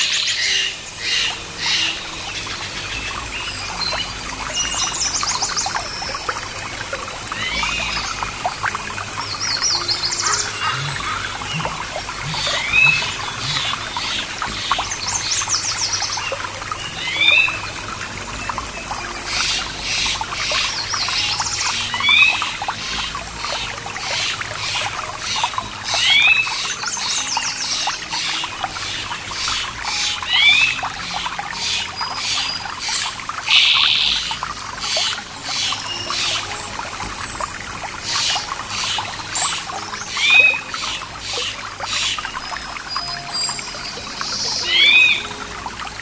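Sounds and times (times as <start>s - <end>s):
birds singing: 0.0s - 46.0s
stream water trickling: 0.0s - 46.0s.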